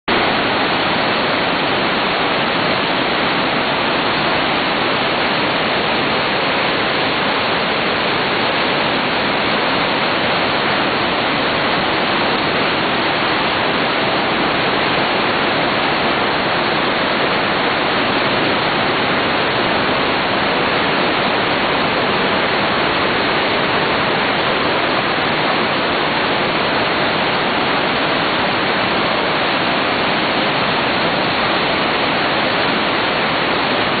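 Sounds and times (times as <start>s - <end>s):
waterfall rushing: 0.1s - 34.0s.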